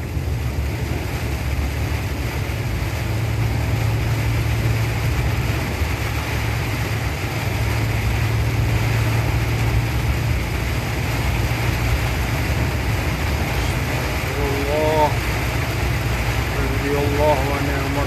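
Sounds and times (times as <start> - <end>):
heavy rain falling: 0.0 - 18.0
low engine hum: 0.0 - 18.0.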